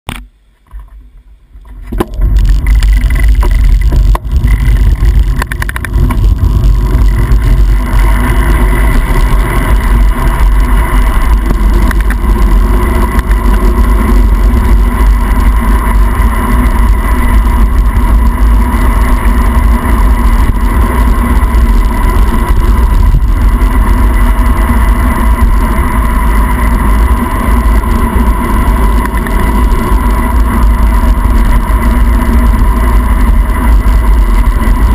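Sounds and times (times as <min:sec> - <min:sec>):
wind rushing over microphone: 0:01.6 - 0:34.9.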